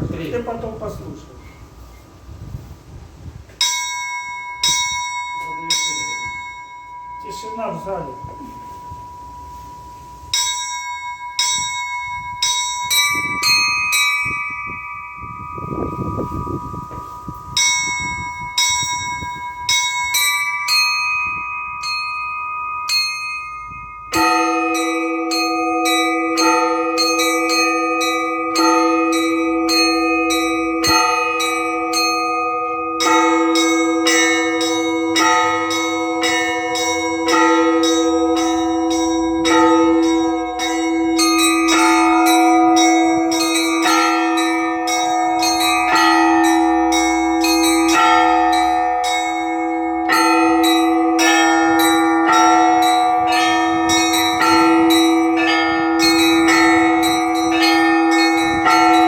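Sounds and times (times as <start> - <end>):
large bell ringing: 3.6 - 59.0
small church bells in quick runs: 3.6 - 59.0.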